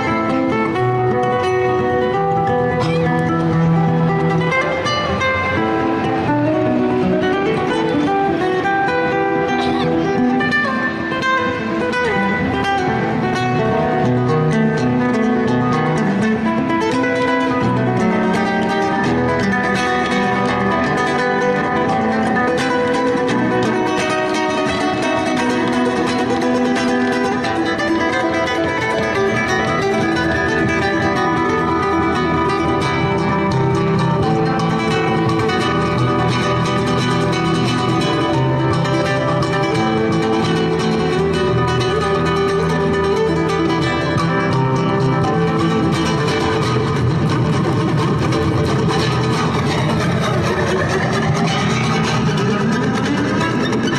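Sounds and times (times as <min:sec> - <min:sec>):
acoustic guitar music: 0:00.0 - 0:53.9.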